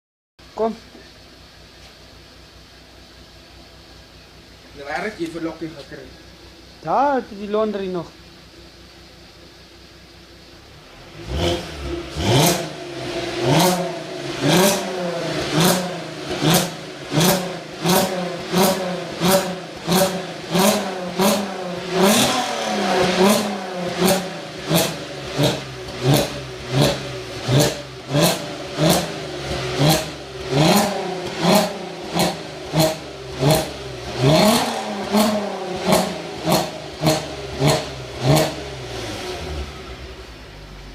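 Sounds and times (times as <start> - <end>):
car engine revving: 3.3 - 40.9.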